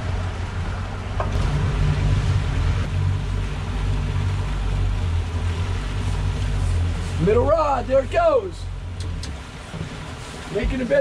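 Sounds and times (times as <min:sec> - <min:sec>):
outboard motors droning: 0:00.0 - 0:11.0
water washing in wake: 0:00.0 - 0:11.0.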